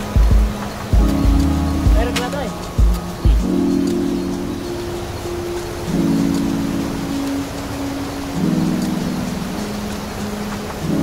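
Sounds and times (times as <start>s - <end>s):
music of held low notes: 0.0s - 11.0s
river rushing over rocks: 0.0s - 11.0s.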